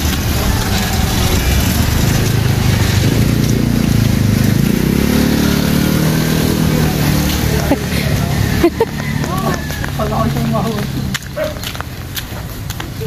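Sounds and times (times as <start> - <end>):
vehicle engine running: 0.0 - 12.8.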